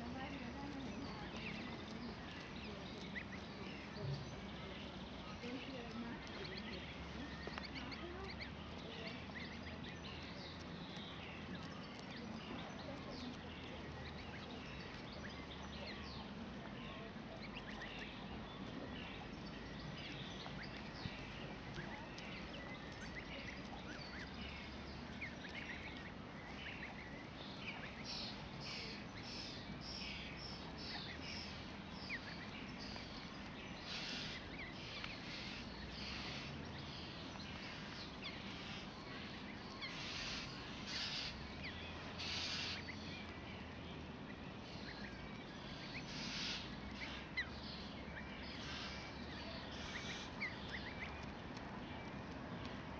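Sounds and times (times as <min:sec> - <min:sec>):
goslings peeping: 0:00.0 - 0:52.8.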